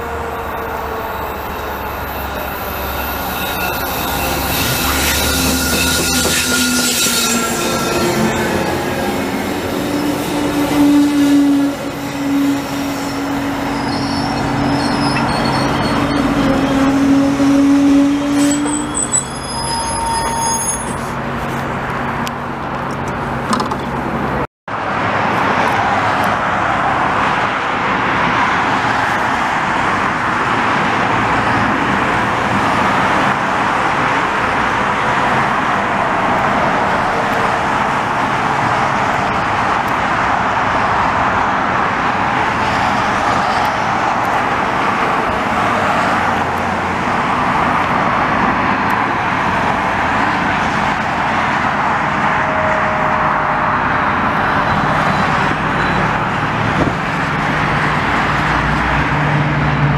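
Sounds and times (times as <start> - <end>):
highway traffic noise: 0.0 - 59.9
rail cars rumbling past: 0.0 - 59.9.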